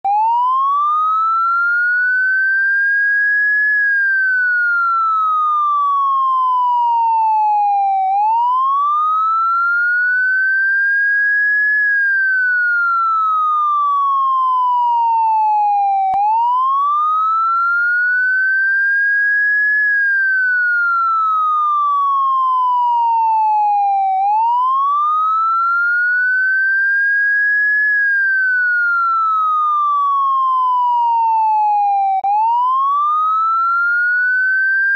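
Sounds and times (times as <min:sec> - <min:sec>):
police siren wailing: 0:00.1 - 0:34.9.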